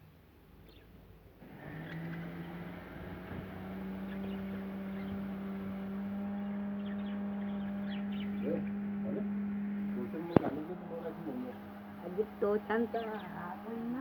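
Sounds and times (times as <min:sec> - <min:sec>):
low machine hum: 0:01.4 - 0:14.0.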